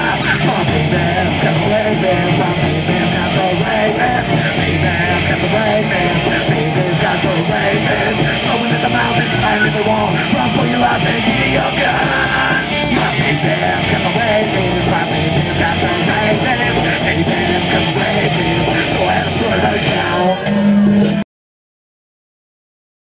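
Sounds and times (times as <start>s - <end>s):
live rock band playing: 0.0s - 21.2s
singer yelling into microphone: 0.0s - 21.2s.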